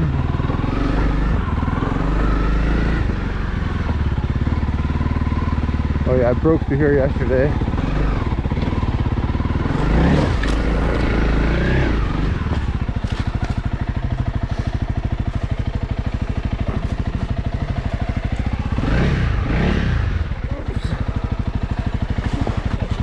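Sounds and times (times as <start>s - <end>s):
motorcycle engine chugging: 0.0s - 23.0s.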